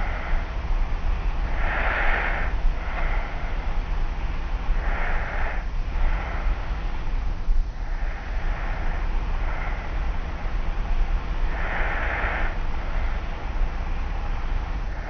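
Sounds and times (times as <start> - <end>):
low hum and tape hiss: 0.0 - 15.0.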